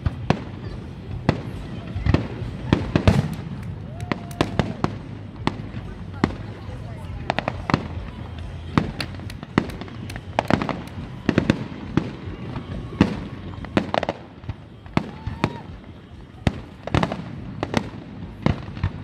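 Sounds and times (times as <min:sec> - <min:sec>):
fireworks bangs and cracks: 0:00.0 - 0:19.0.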